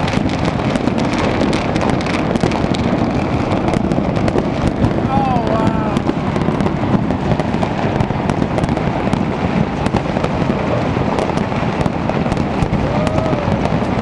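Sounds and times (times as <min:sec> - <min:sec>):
fireworks and firecrackers banging: 0:00.0 - 0:14.0.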